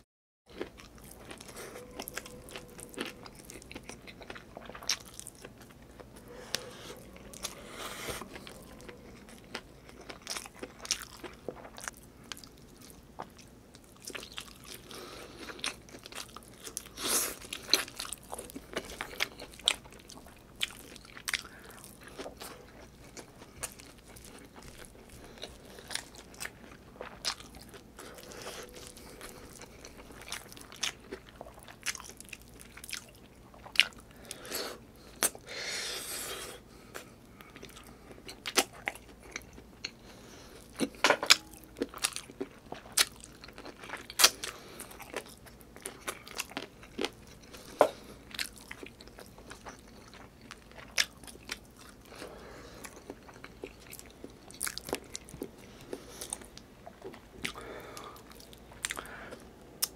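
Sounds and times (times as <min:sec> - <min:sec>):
man chewing and mouth smacks: 0:00.5 - 0:35.5, 0:36.1 - 0:59.9.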